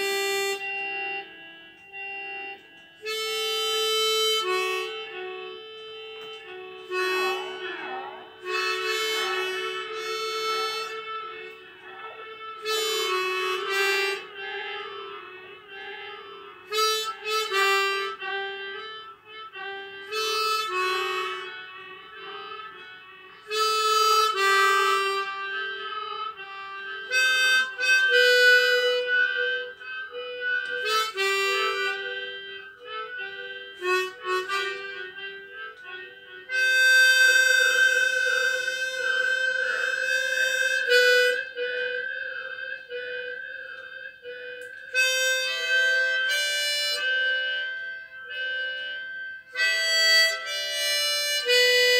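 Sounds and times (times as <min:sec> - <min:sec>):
harmonica playing slow music: 0:00.0 - 0:51.9.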